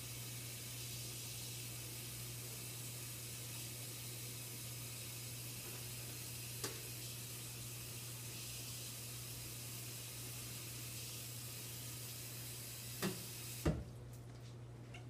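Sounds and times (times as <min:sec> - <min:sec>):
room noise hiss and hum: 0:00.0 - 0:15.0.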